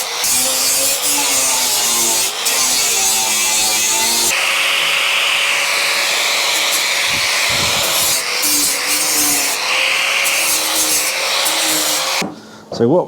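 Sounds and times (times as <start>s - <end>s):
power grinder on metal: 0.0s - 12.2s.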